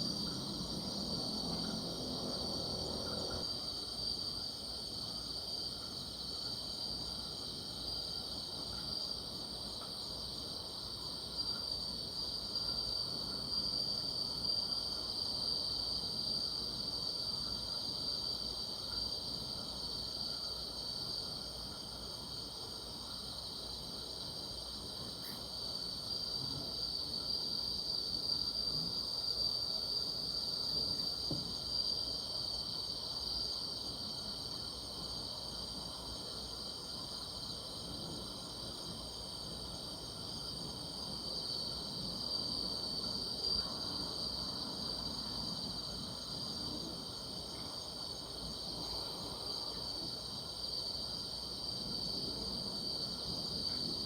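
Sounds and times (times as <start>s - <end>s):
insects singing in chorus: 0.0s - 54.0s.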